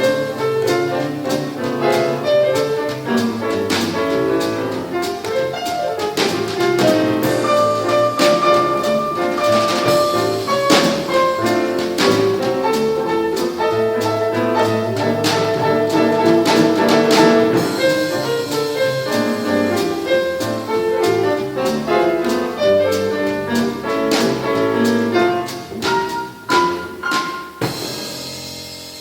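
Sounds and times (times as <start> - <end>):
swing jazz band playing: 0.0 - 29.0.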